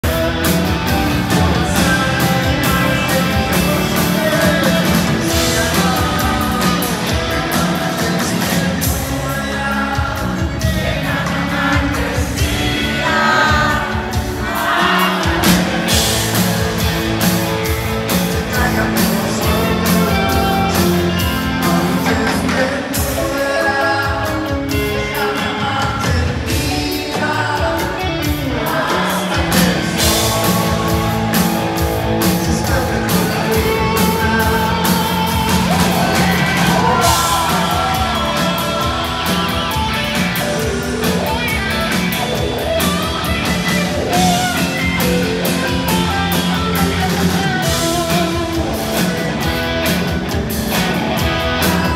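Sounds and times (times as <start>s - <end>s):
lead vocalist singing: 0.0s - 50.1s, 50.7s - 51.9s
rock band playing live: 0.0s - 51.9s.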